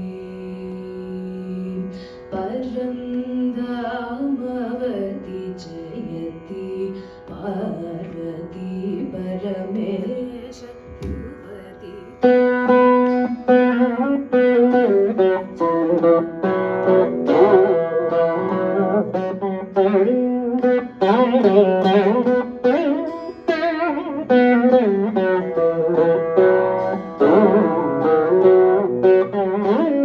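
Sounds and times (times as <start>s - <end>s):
person singing: 0.0s - 26.1s
plucked veena notes: 0.0s - 30.0s
veena melody: 0.0s - 30.0s.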